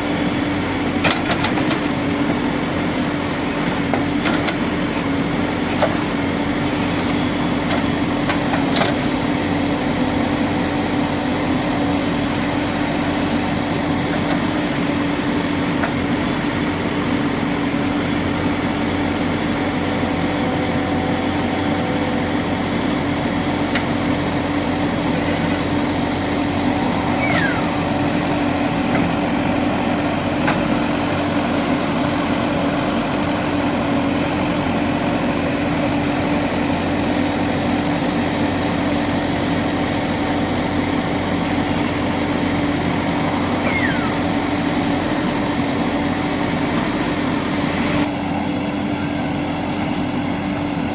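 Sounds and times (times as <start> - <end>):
diesel engine running steadily: 0.0 - 50.9.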